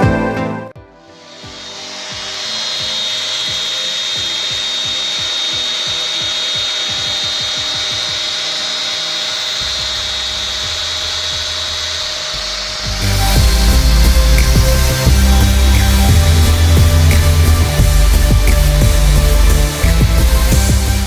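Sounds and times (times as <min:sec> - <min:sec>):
high whine: 0:00.8 - 0:21.0
cnc machine cutting: 0:01.1 - 0:21.0.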